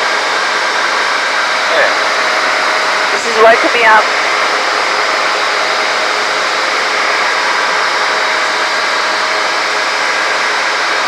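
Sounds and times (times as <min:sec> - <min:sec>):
microlight aircraft engine and wind: 0:00.0 - 0:11.0.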